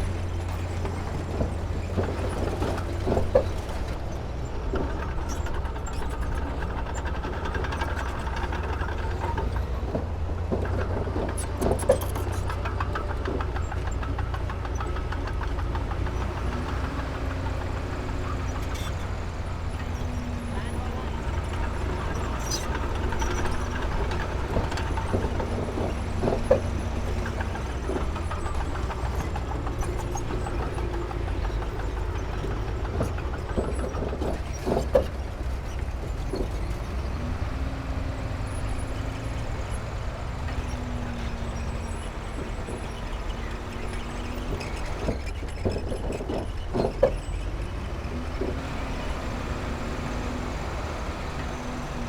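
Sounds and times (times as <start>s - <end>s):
diesel machinery engine rumbling: 0.0s - 52.0s.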